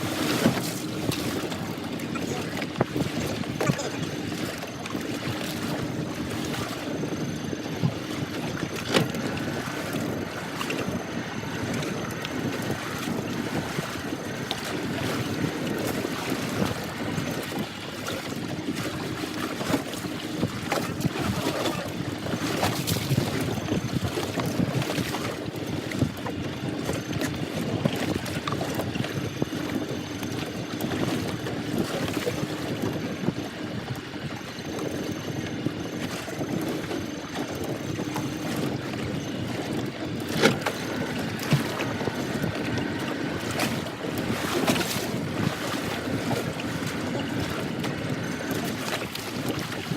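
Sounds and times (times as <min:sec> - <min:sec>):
water lapping around boat: 0:00.0 - 0:49.9
wind buffeting microphone: 0:00.0 - 0:49.9.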